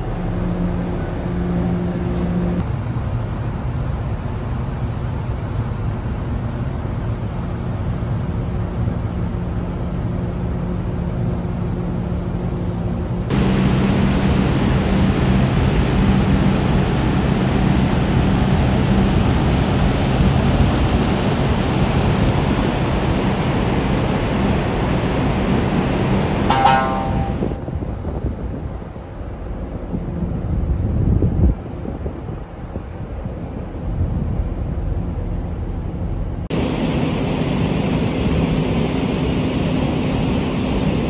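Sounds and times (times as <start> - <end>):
ship machinery hum: 0.0 - 27.7, 32.4 - 41.0
wind rushing on deck: 0.0 - 41.0.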